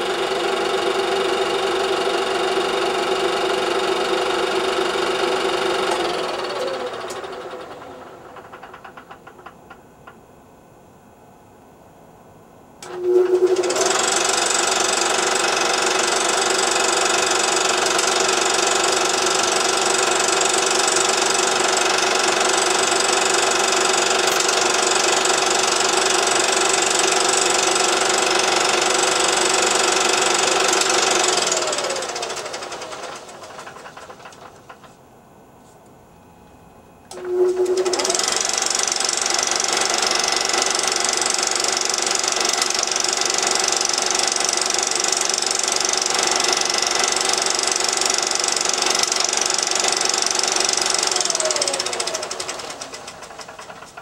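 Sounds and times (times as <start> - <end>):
film projector clattering: 0.0 - 9.8, 12.8 - 35.0, 37.1 - 54.0.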